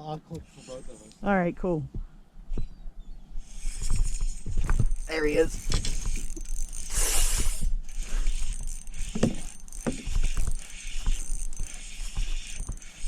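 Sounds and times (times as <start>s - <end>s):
fishing reel clicking: 0.3s - 1.4s, 2.4s - 13.0s.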